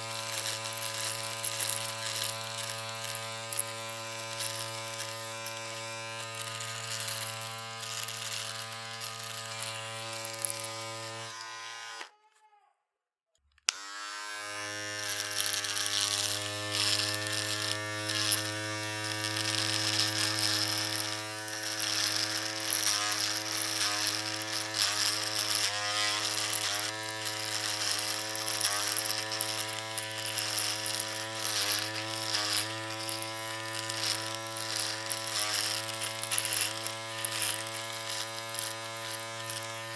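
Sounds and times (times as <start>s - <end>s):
electric shaver buzzing: 0.0s - 12.3s, 13.7s - 39.9s.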